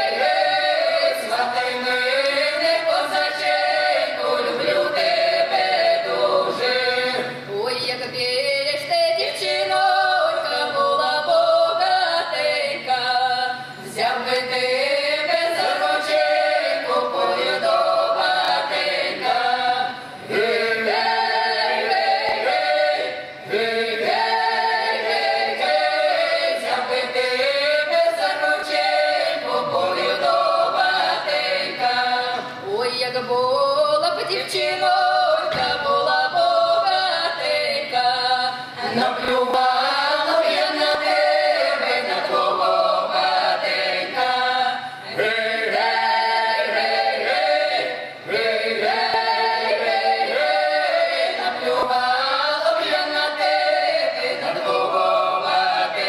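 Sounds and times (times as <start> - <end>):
a cappella folk choir singing: 0.0 - 56.0.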